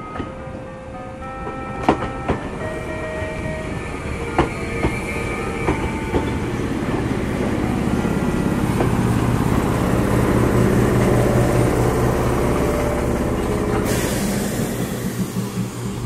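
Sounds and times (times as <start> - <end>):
electric train hum and rumble: 0.0 - 16.0.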